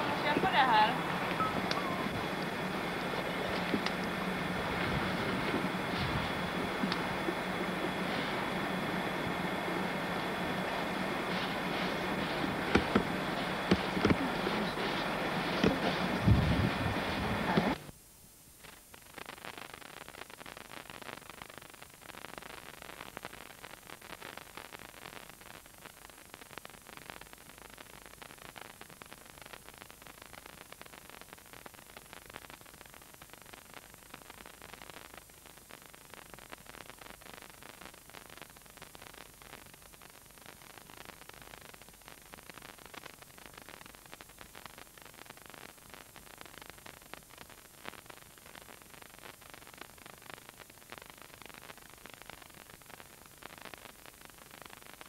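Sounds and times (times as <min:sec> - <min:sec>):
crackling rustle: 0:00.0 - 0:17.9, 0:18.5 - 0:55.0
steady hiss: 0:00.0 - 0:55.0.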